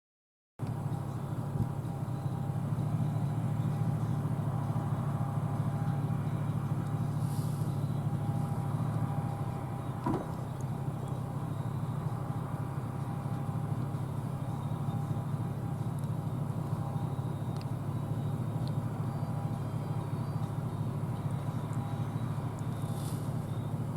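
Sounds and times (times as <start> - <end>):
combine harvester droning: 0.6 - 23.9
faint steady whine: 0.6 - 23.9.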